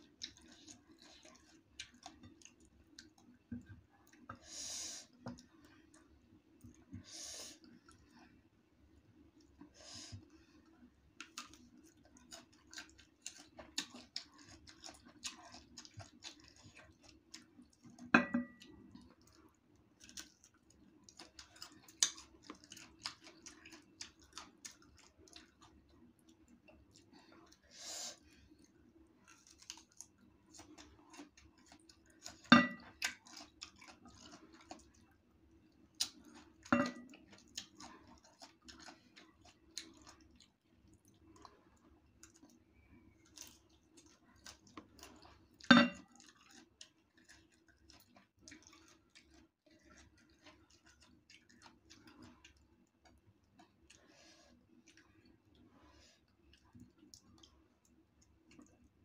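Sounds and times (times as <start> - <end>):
chewing with wet mouth clicks: 0.0 - 4.3, 11.2 - 27.6, 28.2 - 59.0.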